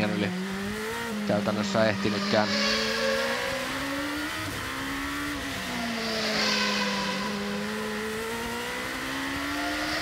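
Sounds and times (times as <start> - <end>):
race car engine accelerating: 0.0 - 10.0.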